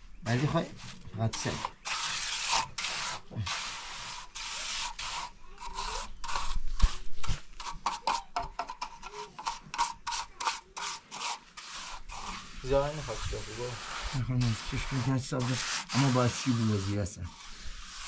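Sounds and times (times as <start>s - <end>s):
trowel scraping wet cement: 0.4s - 18.0s.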